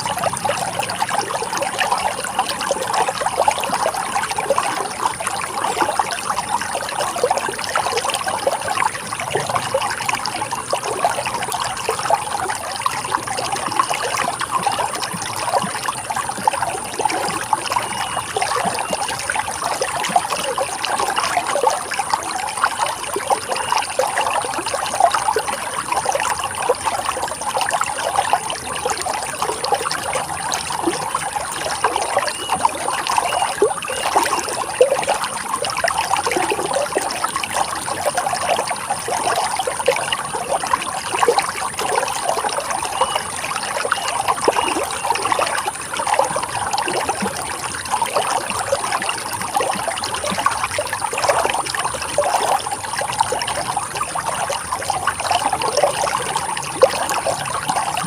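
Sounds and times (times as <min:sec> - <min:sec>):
water trickling over rocks: 0:00.0 - 0:58.0.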